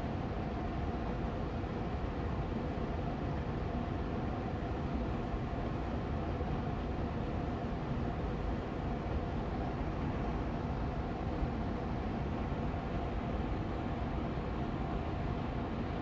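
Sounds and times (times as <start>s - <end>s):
air purifier fan running: 0.0s - 16.0s.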